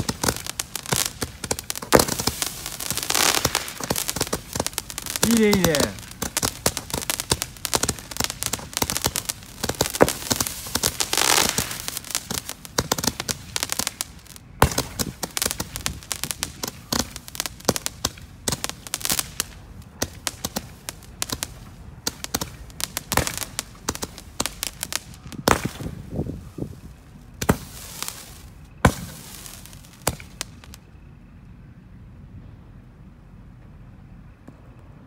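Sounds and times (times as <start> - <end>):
loud firework bangs: 0.0 - 30.8
fireworks popping and crackling: 0.0 - 30.9.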